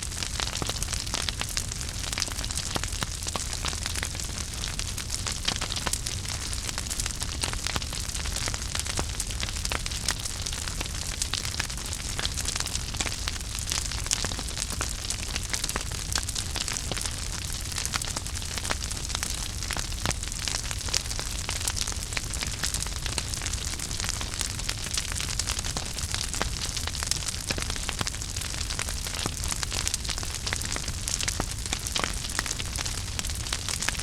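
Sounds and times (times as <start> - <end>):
low rumble of burning logs: 0.0 - 34.0
wood fire crackling and popping: 0.0 - 34.0.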